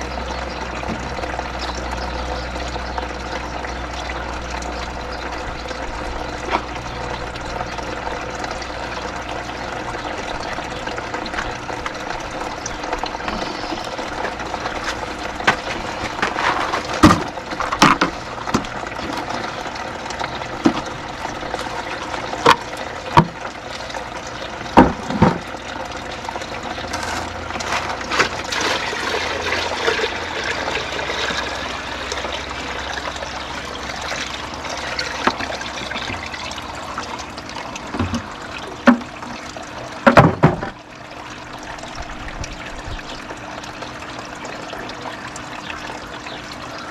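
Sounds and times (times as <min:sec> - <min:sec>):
water running: 0:00.0 - 0:46.9.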